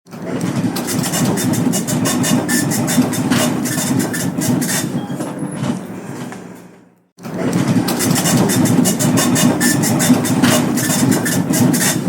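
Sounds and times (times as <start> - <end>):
dot matrix printer printing: 0.1 - 6.5, 7.2 - 12.0.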